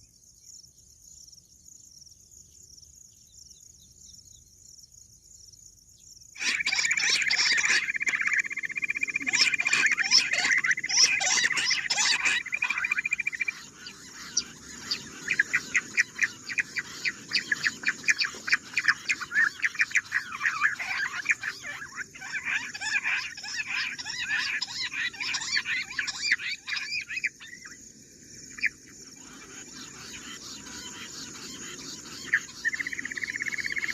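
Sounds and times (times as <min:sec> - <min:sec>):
quail chirping calls: 0:06.4 - 0:33.9.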